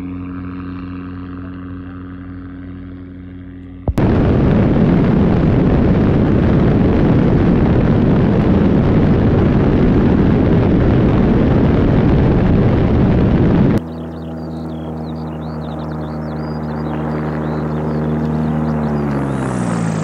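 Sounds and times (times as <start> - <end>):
wind buffeting a camera: 3.9 - 20.0.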